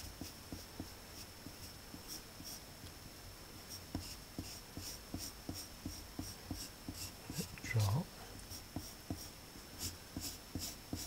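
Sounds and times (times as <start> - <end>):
pencil sketching on paper: 0.0 - 2.6, 3.7 - 7.5, 8.5 - 11.0.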